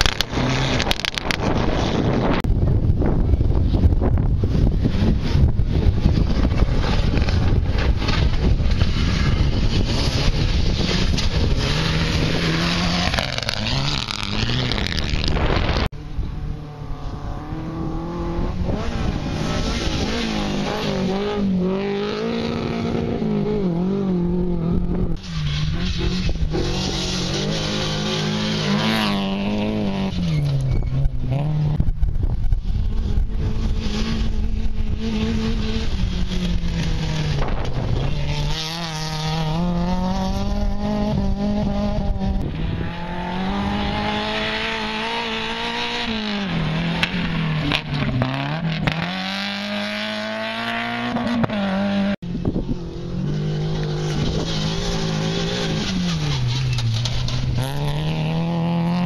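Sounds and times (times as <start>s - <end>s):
gravel noise: 0.0s - 59.0s
rally car engines revving: 0.0s - 59.0s
wind noise on microphone: 0.0s - 59.0s.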